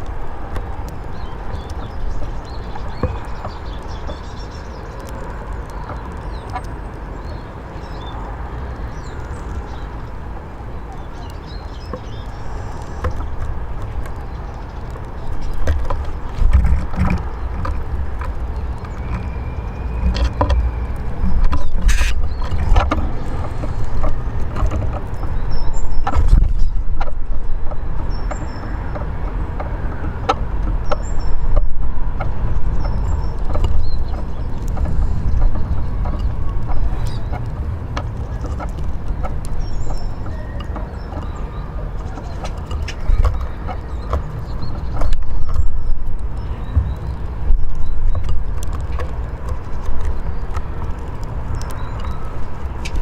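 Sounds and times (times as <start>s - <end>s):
birds clicking and tapping on table: 0.0s - 53.0s.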